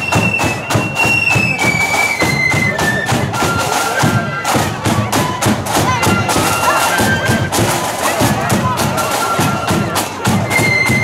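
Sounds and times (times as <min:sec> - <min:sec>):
flutes playing melody: 0:00.0 - 0:11.0
marching drums beat: 0:00.0 - 0:11.0.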